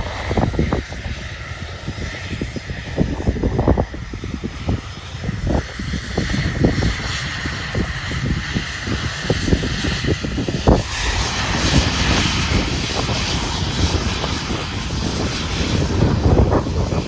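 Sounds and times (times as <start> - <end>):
jet engines rushing: 0.0 - 17.0
wind buffeting microphone: 0.0 - 17.0.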